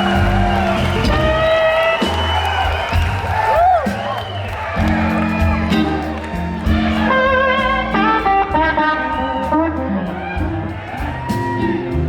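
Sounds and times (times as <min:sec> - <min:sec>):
live blues band playing: 0:00.0 - 0:12.0.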